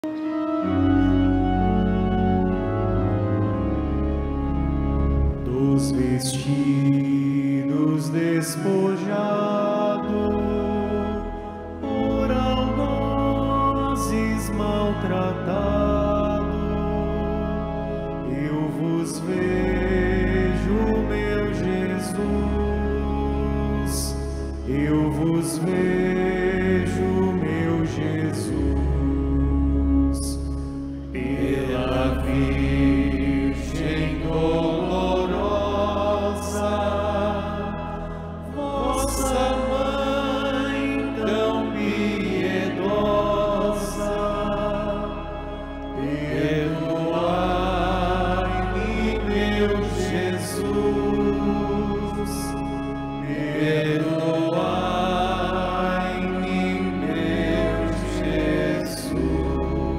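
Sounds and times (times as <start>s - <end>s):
held low accompanying notes: 0.0s - 59.9s
person singing a slow chant: 5.5s - 17.4s, 18.1s - 59.9s.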